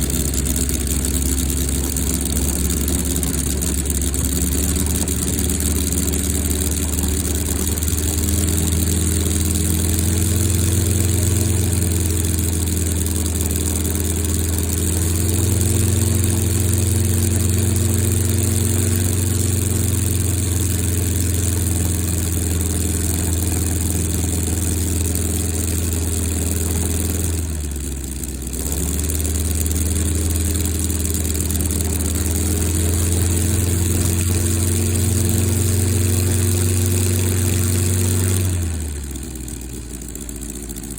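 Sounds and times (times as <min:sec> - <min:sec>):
model engine running: 0:00.0 - 0:40.9.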